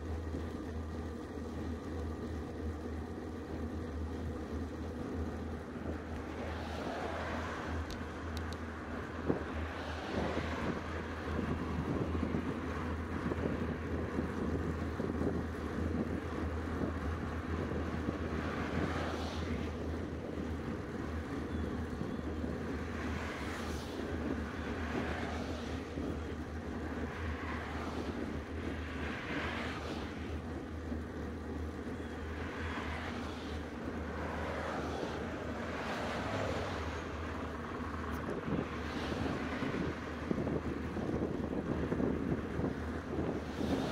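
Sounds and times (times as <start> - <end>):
wind rushing over microphone: 4.6 - 43.9.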